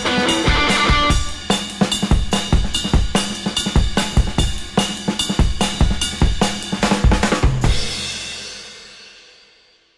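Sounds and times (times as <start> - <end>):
drum-kit beat: 0.0 - 9.4.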